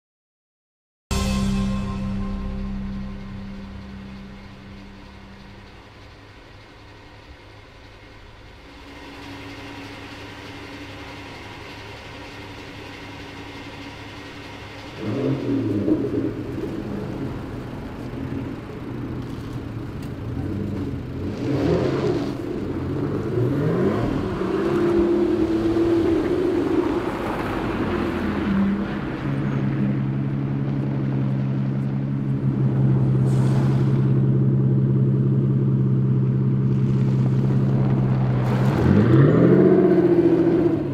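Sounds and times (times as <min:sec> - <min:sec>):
car engine revving: 0:01.3 - 0:40.9.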